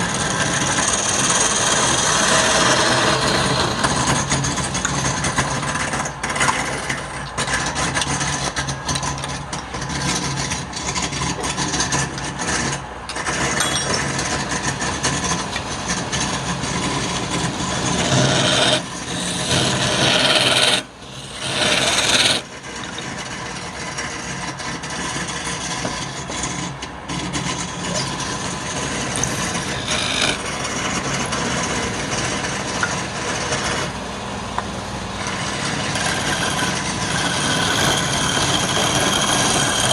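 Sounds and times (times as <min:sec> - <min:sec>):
tool rasping on spinning wood: 0:00.0 - 0:34.1, 0:35.0 - 0:39.9
wood lathe motor hum: 0:00.0 - 0:39.9.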